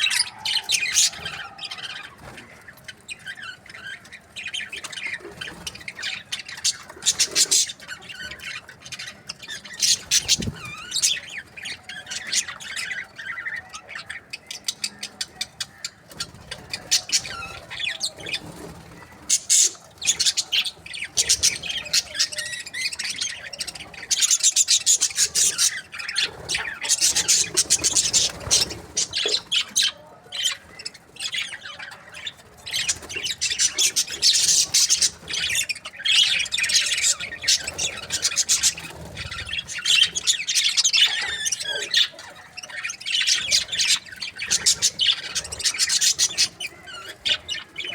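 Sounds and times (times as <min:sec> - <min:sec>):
budgerigars chattering: 0:00.0 - 0:47.9.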